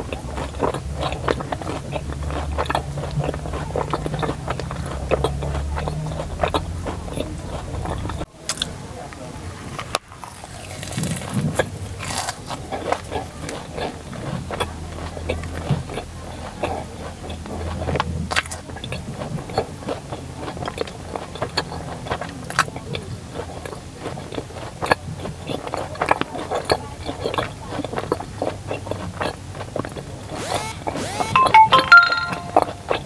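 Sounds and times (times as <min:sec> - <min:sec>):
chewing and biting: 0:00.0 - 0:31.7.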